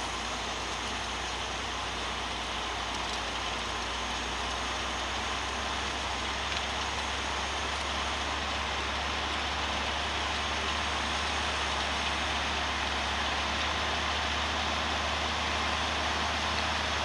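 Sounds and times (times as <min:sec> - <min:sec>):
tractor engine low hum: 0:00.0 - 0:17.0.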